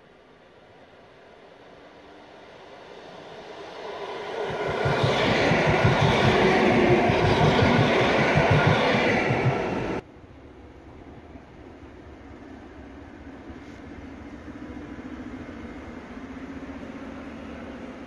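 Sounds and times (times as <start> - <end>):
electric train running past: 0.0 - 18.0.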